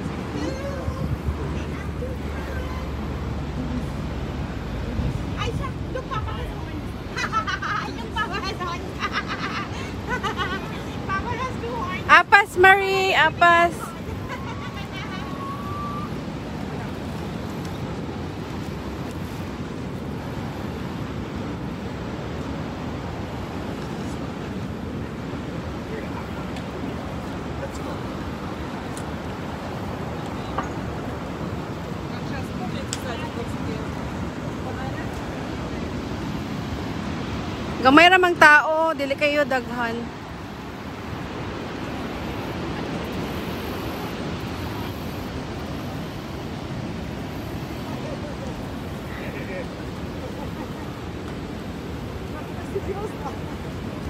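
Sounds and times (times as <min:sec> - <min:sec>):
waterfall roaring: 0:00.0 - 0:54.0
wind rumbling on microphone: 0:00.0 - 0:54.0.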